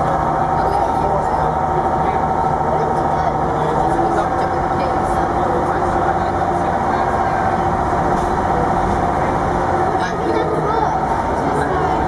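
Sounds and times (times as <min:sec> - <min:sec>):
railcar engine drone: 0:00.0 - 0:12.0.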